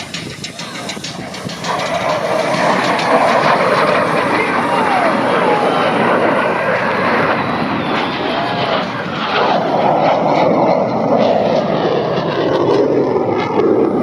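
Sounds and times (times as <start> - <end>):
plane flying over: 0.0 - 14.0.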